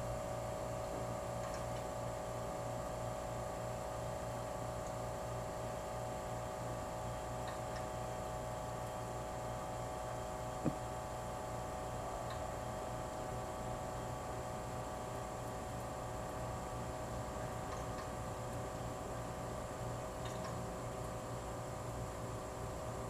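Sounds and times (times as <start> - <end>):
refrigerator compressor humming: 0.0 - 23.0.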